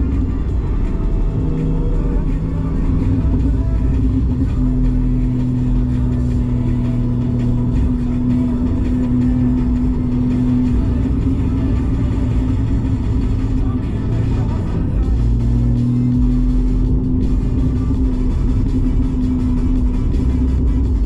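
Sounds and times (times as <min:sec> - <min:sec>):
car engine droning: 0:00.0 - 0:21.0.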